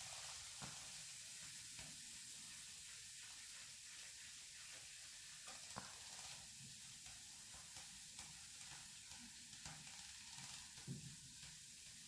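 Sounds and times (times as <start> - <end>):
fizzing in a metal bowl: 0.0 - 12.0.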